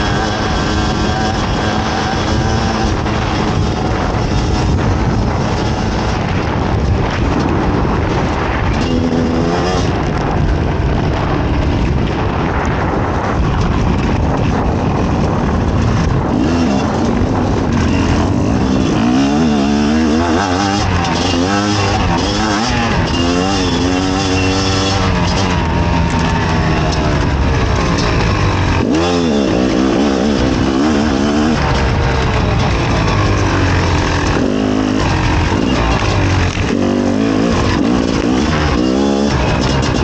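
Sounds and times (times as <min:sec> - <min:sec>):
two-stroke motorcycle engine revving: 0:00.0 - 0:40.0.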